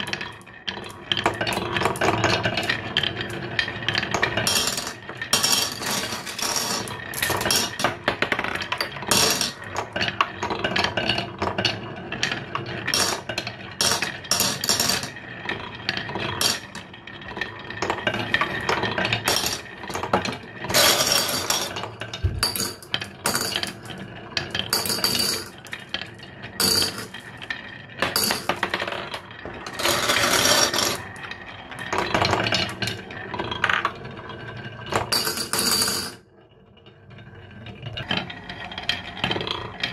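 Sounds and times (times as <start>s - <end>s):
marbles rattling on wooden run: 0.0s - 36.2s.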